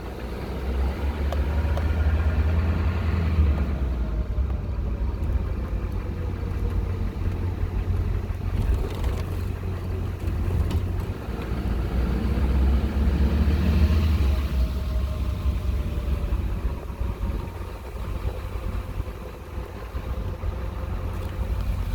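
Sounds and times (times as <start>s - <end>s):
diesel truck rumbling: 0.0s - 21.9s.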